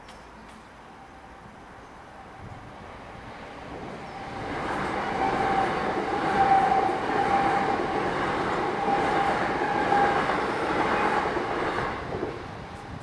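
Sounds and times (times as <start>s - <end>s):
passenger train passing: 0.8s - 13.0s.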